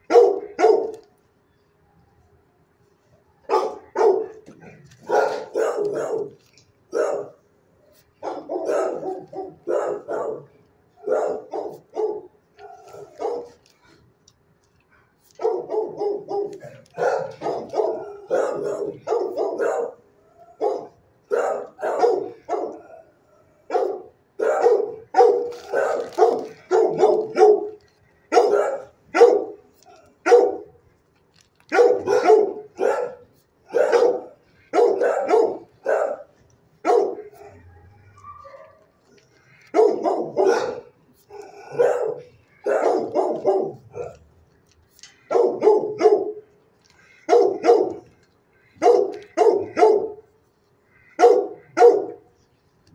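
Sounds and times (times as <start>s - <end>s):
dog barking: 0.0s - 1.1s, 3.4s - 13.6s, 15.3s - 29.6s, 30.2s - 30.7s, 31.7s - 38.9s, 39.5s - 44.2s, 45.2s - 46.4s, 47.1s - 48.1s, 48.8s - 50.3s, 51.0s - 52.2s.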